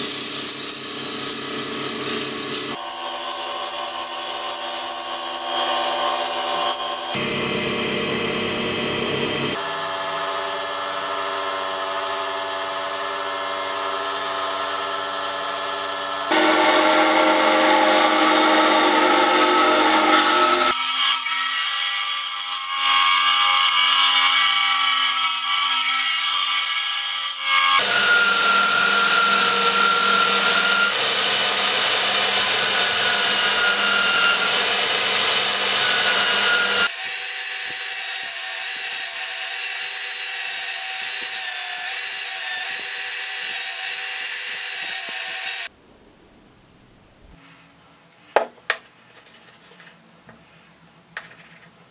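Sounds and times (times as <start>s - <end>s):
bandsaw cutting wood: 0.0s - 7.3s, 9.2s - 45.7s.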